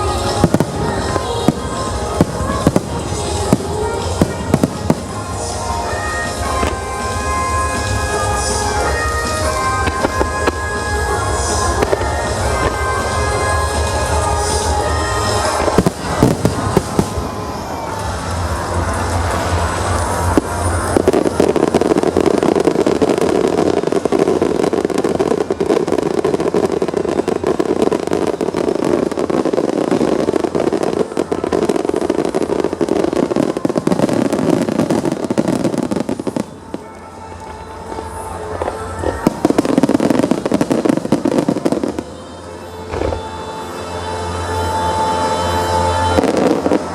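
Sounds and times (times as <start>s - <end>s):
fireworks bursting and crackling: 0.0s - 46.9s
music playing: 0.0s - 46.9s.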